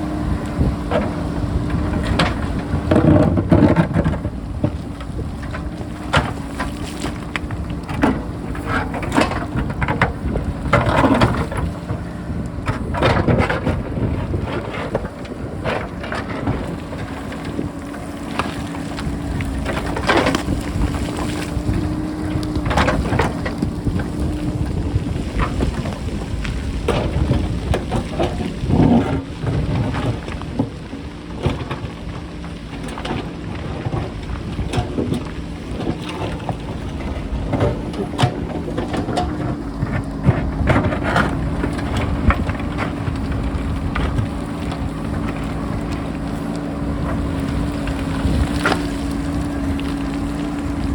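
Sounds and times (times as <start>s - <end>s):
backhoe diesel engine running: 0.0s - 50.9s
rocks clattering: 0.0s - 50.9s
wind buffeting microphone: 0.0s - 50.9s.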